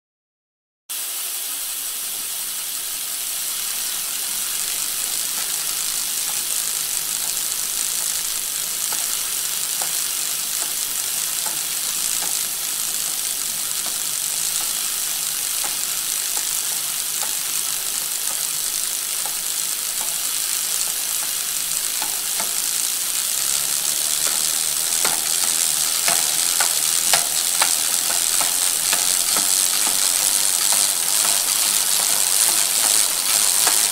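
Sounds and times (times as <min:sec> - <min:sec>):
bicycle tyres and freewheels hissing: 0:00.9 - 0:33.9
bicycle clicks and rattles: 0:03.9 - 0:33.9.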